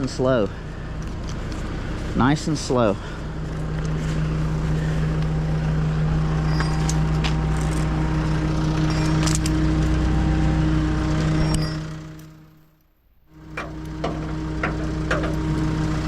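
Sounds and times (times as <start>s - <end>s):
diesel tow truck engine humming: 0.0s - 16.0s.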